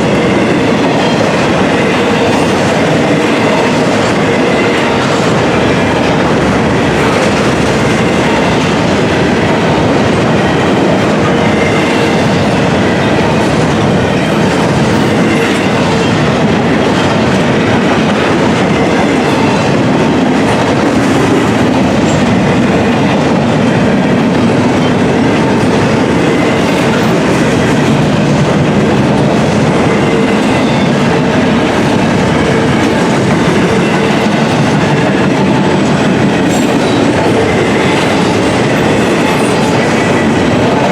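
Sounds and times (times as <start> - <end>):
clickety-clack of train cars: 0.0 - 40.9
steel train wheels on rails: 0.0 - 40.9.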